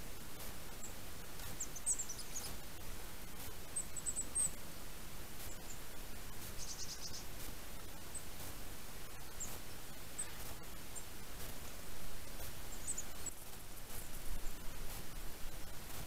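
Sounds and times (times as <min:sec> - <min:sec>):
small birds chirping: 0:00.0 - 0:16.0
steady background hiss: 0:00.0 - 0:16.0.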